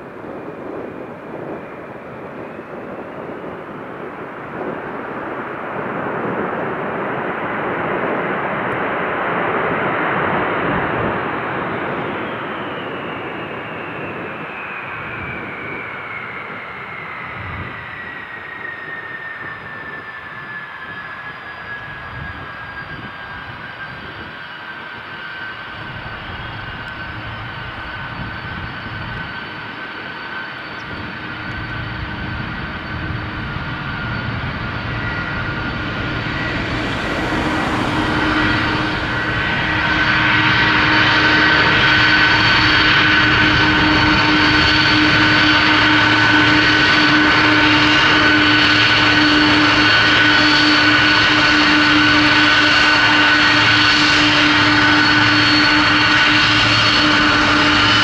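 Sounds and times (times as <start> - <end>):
high engine whine: 0.0 - 58.0
jet engines roaring: 0.0 - 58.0.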